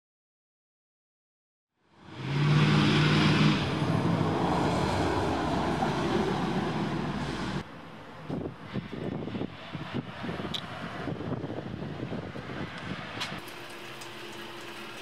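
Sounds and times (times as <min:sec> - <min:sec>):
vehicle engine hum: 0:01.8 - 0:15.0.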